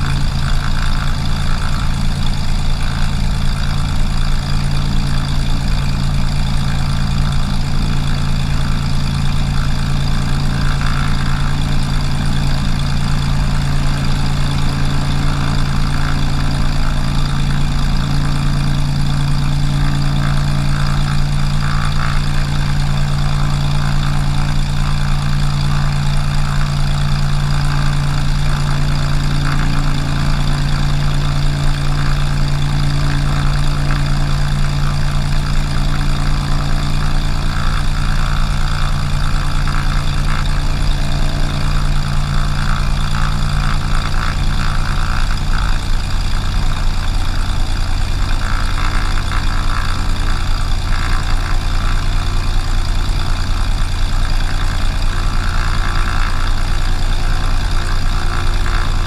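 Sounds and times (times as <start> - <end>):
propeller plane engine idling: 0.0 - 59.0.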